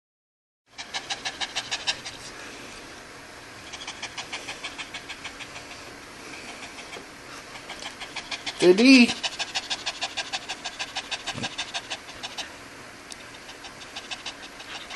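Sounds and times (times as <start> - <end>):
dog panting: 0.7 - 2.4, 3.6 - 12.6, 13.3 - 14.9.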